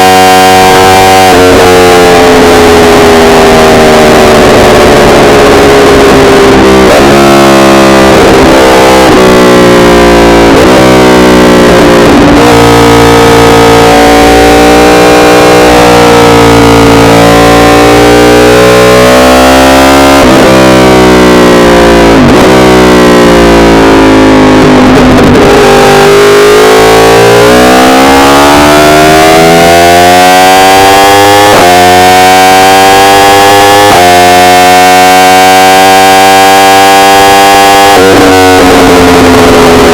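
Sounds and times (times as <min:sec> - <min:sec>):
motorcycle engine running distorted: 0:00.0 - 0:39.9.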